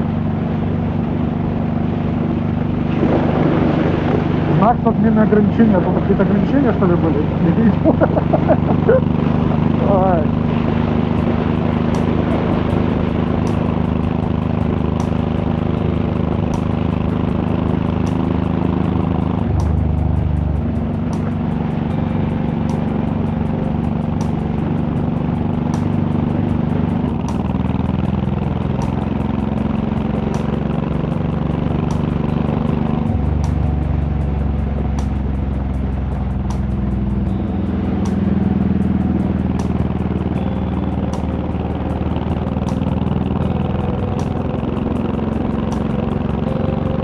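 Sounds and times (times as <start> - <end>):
motorcycle engine cruising: 0.0 - 47.0.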